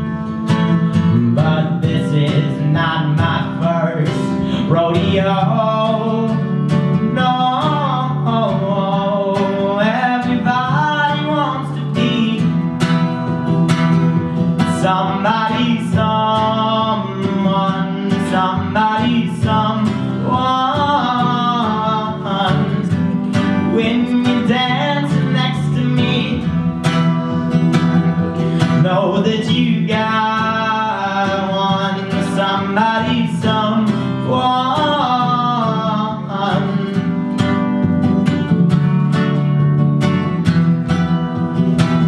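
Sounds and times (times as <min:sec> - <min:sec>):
strummed acoustic guitar: 0:00.0 - 0:42.0.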